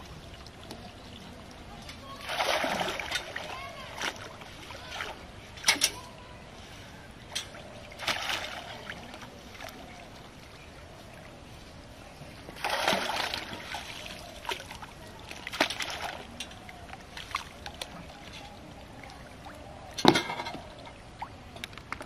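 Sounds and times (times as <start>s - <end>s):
pond water splashing: 0.0s - 22.0s.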